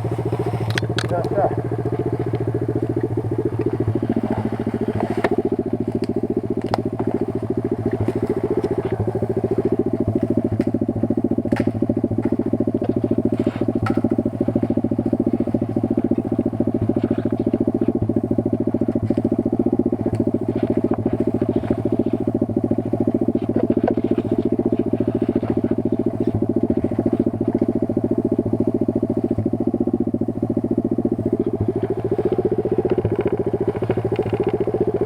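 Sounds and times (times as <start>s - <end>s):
pit bike engine running: 0.0s - 35.0s.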